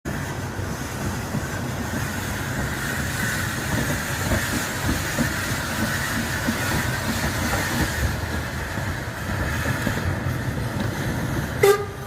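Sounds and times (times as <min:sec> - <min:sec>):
steam locomotive hissing steam: 0:00.1 - 0:11.9.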